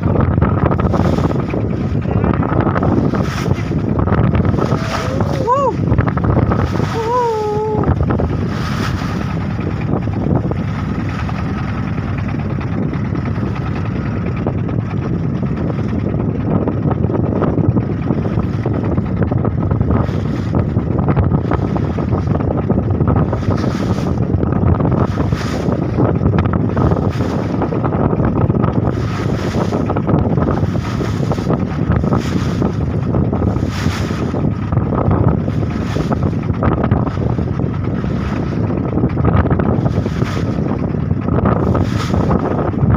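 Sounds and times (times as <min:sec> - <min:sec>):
waves splashing against boat: 0:00.0 - 0:42.9
wind buffeting microphone: 0:00.0 - 0:42.9.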